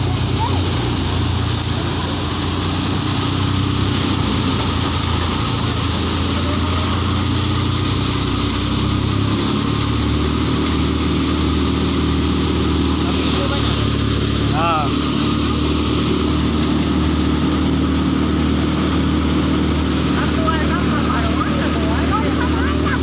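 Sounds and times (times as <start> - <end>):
grain streaming hiss: 0.0 - 23.0
thresher machine hum: 0.0 - 23.0.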